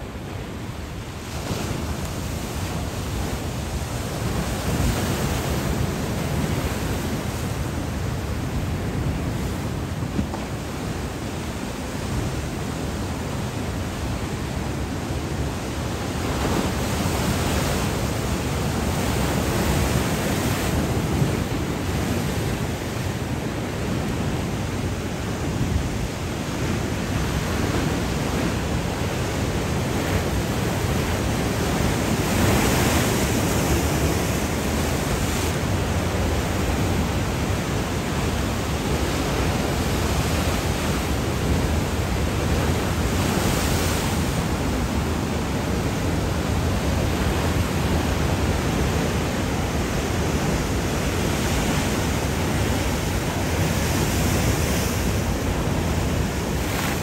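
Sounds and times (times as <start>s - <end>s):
ocean surf washing: 0.0s - 57.0s.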